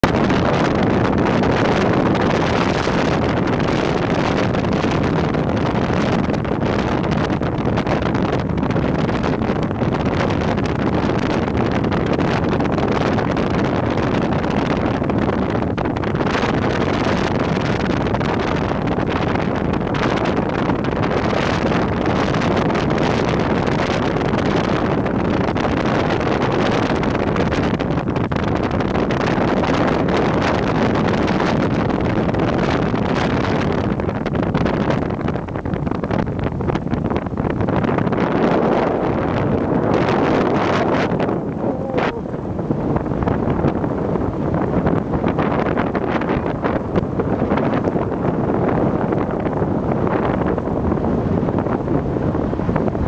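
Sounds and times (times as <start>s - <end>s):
motorboat engine running: 0.0s - 53.0s
water rushing along hull: 0.0s - 53.0s
wind buffeting microphone: 0.0s - 53.0s.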